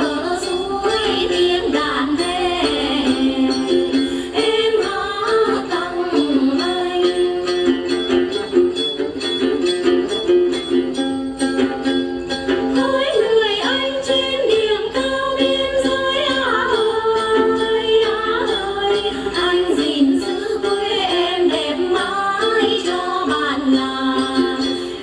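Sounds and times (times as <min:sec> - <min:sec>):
voices singing sliding melody: 0:00.0 - 0:09.0, 0:12.5 - 0:25.0
gourd lutes plucked: 0:00.0 - 0:25.0
small bells jingling: 0:00.0 - 0:25.0.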